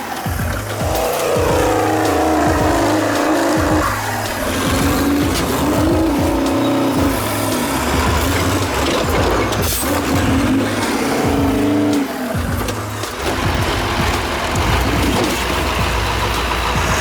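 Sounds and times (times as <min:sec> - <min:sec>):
background music: 0:00.0 - 0:17.0
truck engine revving: 0:00.0 - 0:17.0.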